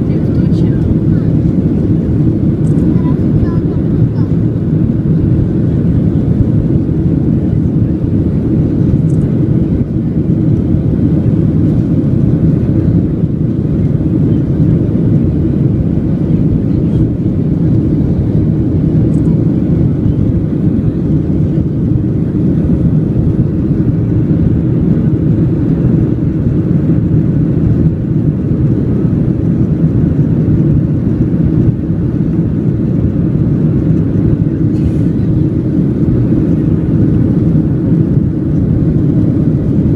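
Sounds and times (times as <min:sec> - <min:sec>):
jet engines rumbling: 0:00.0 - 0:39.9
rushing air: 0:00.0 - 0:39.9.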